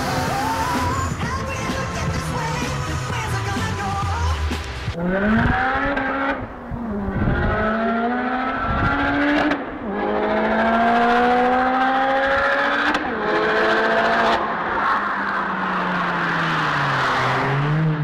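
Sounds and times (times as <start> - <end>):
turbocharged car engine accelerating: 0.0 - 1.2, 4.7 - 18.0.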